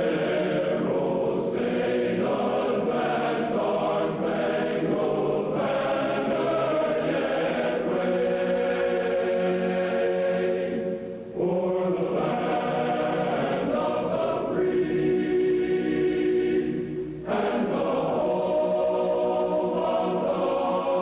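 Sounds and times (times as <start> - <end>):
choir singing sustained chords: 0.0 - 21.0.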